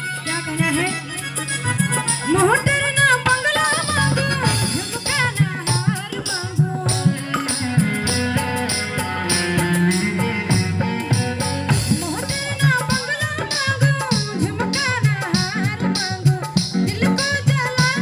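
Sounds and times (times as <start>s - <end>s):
ornamented lead melody: 0.0s - 17.4s
jingling hand percussion: 0.0s - 18.0s
drum: 1.7s - 18.0s.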